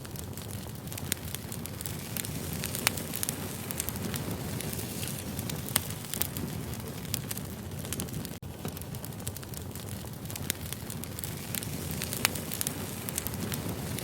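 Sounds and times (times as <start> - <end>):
firewood crackling: 0.0 - 14.0.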